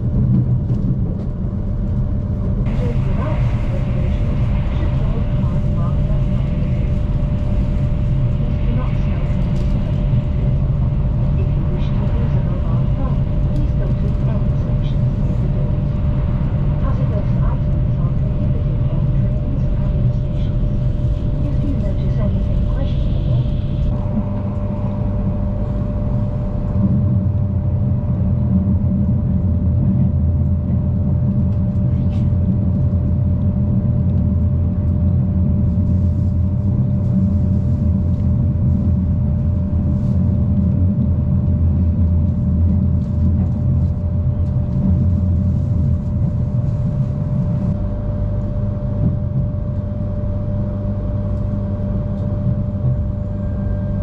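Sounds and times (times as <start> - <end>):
passenger train running: 0.0 - 54.0.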